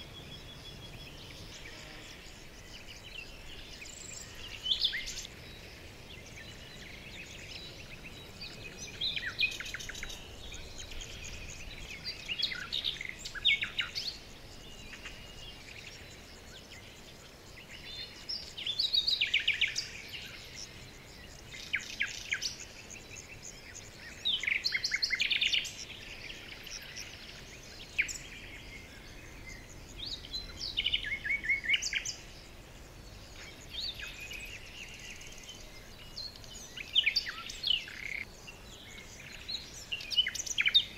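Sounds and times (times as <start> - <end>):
faint steady hiss: 0.0 - 40.9
songbirds chirping and trilling: 0.0 - 40.9.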